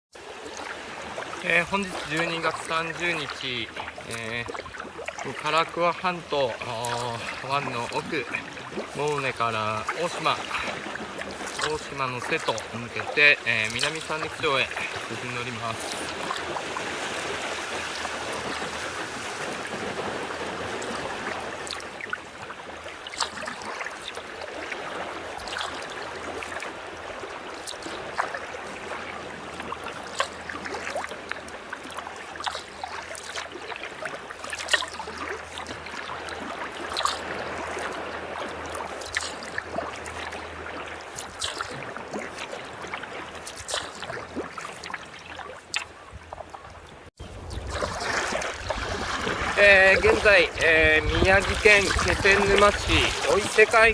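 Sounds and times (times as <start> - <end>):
paddle splashes and drips: 0.1 - 53.9
water rushing along kayak hull: 0.1 - 53.9.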